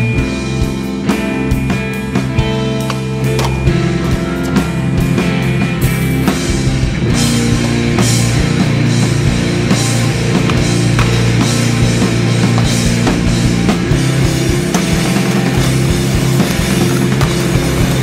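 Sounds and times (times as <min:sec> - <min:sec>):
driving drum beat: 0:00.0 - 0:18.0
heavy rock music: 0:00.0 - 0:18.0.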